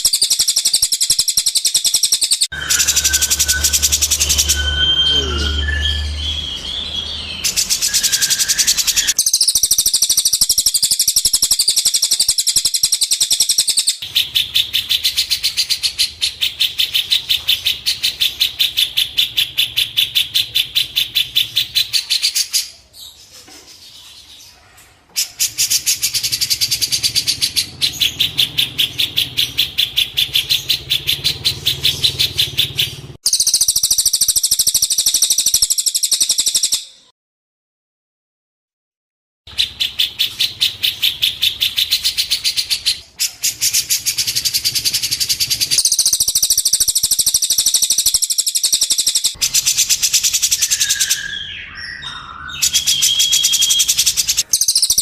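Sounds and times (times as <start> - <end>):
songbird rapid high chirps: 0.0 - 23.2, 25.2 - 37.1, 39.5 - 55.0.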